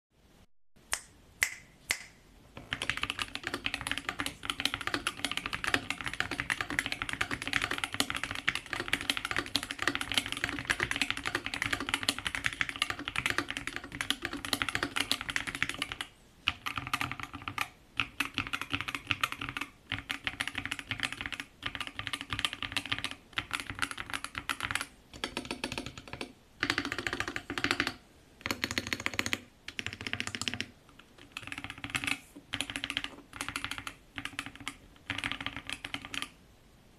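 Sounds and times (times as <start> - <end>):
keyboard typing: 2.6 - 36.4.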